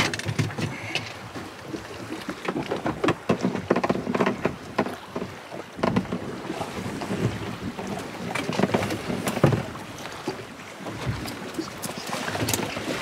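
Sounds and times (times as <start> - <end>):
water slapping against boat hull: 0.0 - 13.0.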